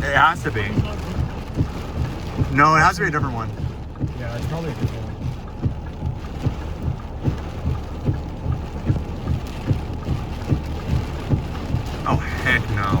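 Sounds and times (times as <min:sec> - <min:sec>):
heavy rain on car roof: 0:00.0 - 0:13.0
low rumble: 0:00.0 - 0:13.0.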